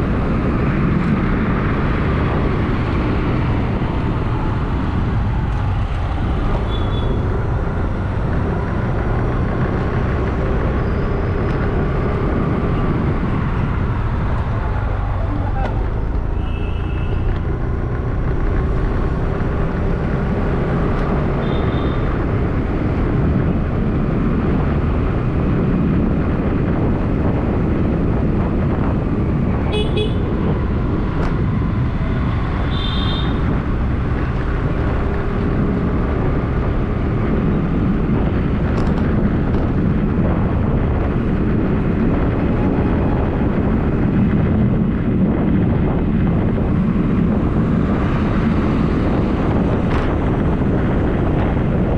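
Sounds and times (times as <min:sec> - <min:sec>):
road traffic noise: 0:00.0 - 0:51.9.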